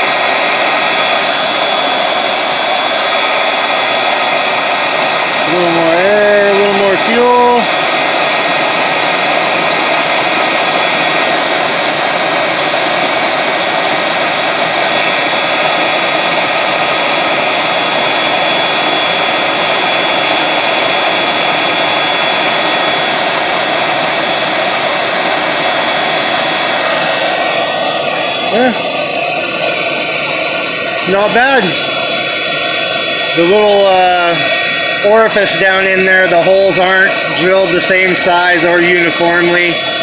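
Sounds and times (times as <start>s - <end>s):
faint high whine: 0.0s - 40.0s
propane burner roaring: 0.0s - 40.0s.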